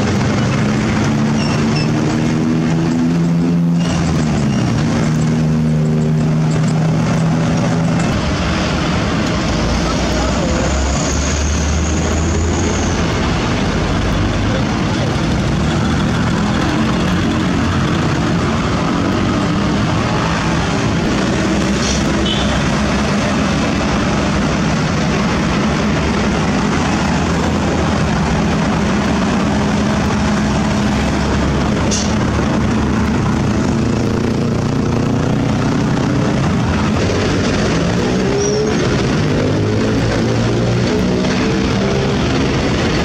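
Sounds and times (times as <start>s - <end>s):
heavy diesel machinery droning: 0.0s - 43.0s.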